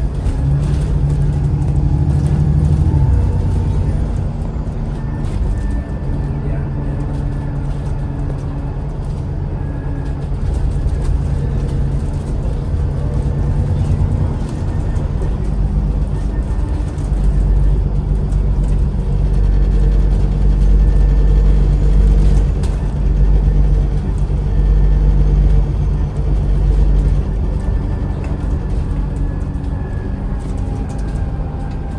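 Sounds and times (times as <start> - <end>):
bus engine droning: 0.0 - 31.9.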